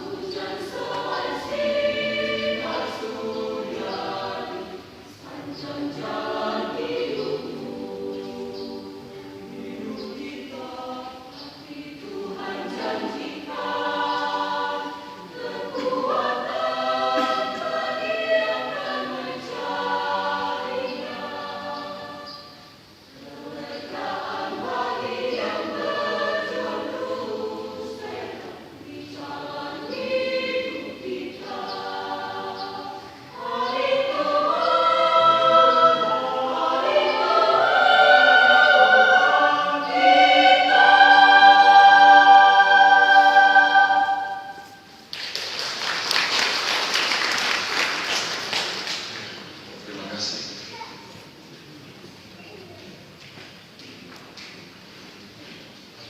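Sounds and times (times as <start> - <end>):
choir singing a hymn: 0.0 - 50.6.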